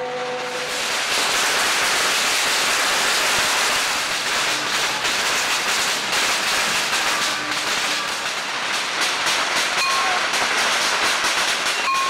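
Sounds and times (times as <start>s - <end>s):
firecrackers crackling: 0.4s - 12.0s
spark fountain hissing: 0.6s - 12.0s.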